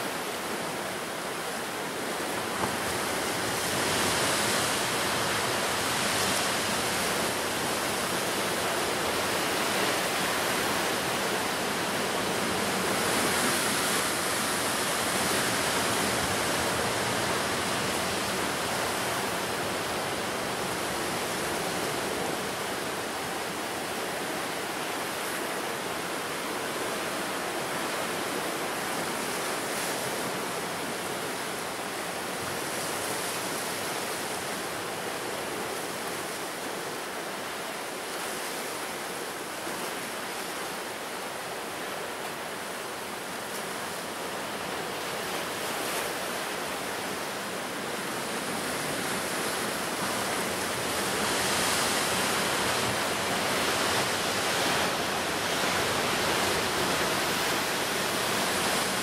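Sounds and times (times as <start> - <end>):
sea surf washing onto shore: 0.0 - 59.0.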